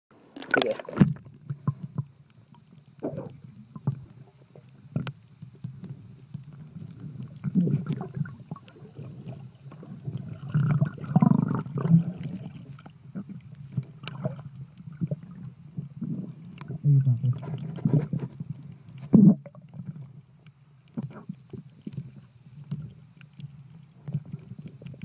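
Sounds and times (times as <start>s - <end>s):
muffled underwater sloshing: 0.1s - 25.0s
water splashes: 0.2s - 25.0s.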